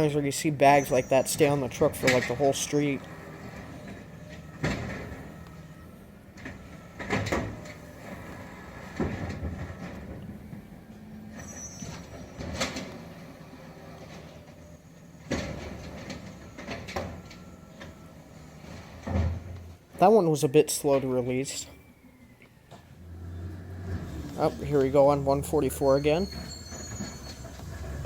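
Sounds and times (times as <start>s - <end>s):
garbage truck engine and hydraulics: 0.0s - 28.0s
trash carts clunking and banging: 0.0s - 28.0s.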